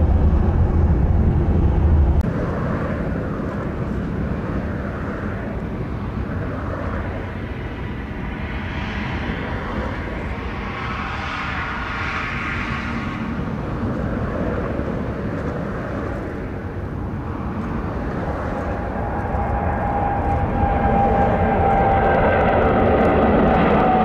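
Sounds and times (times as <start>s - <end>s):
jet engine whine: 0.0s - 24.0s
jet engines rumbling: 0.0s - 24.0s.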